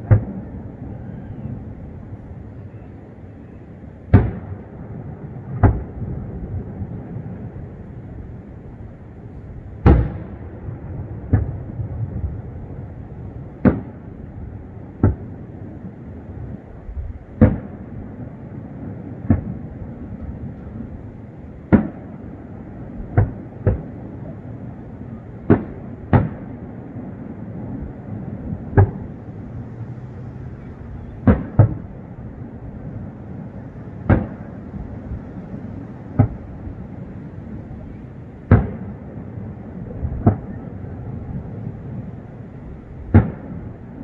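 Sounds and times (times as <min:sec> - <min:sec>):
fireworks bangs: 0:00.0 - 0:02.9, 0:04.0 - 0:07.9, 0:09.8 - 0:14.2, 0:14.9 - 0:15.4, 0:17.3 - 0:29.5, 0:30.6 - 0:44.0
low background noise: 0:00.0 - 0:44.0.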